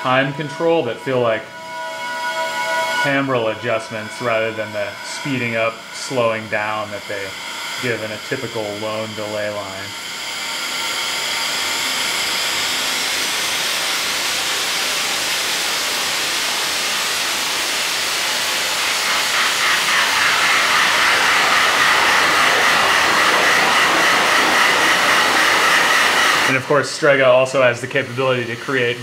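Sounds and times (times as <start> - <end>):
hissing synthesizer echo wash: 0.0 - 14.2, 17.6 - 28.9.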